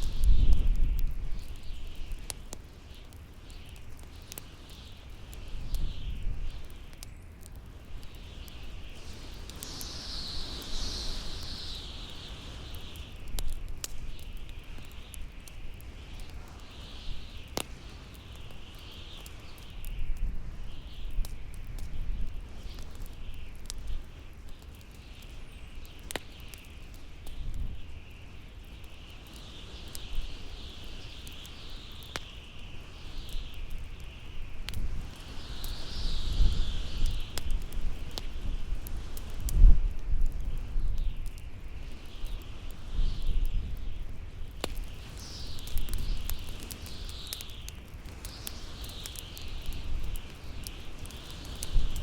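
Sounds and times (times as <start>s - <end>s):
bonfire crackling and popping: 0.0s - 52.0s
howling wind: 0.0s - 52.0s.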